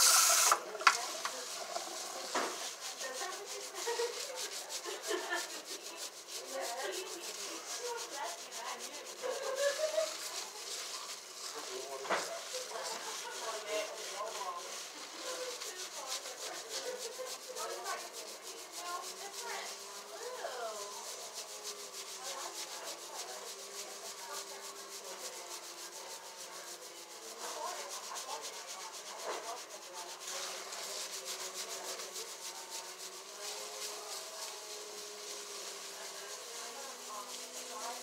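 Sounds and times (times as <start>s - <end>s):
wet rubbing of lathered hair: 0.0s - 38.0s.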